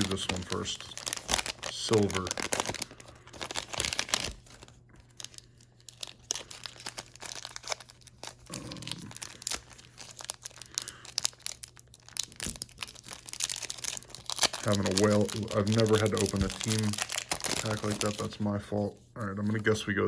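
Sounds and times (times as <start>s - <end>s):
card pack wrapper tearing: 0.0s - 18.4s.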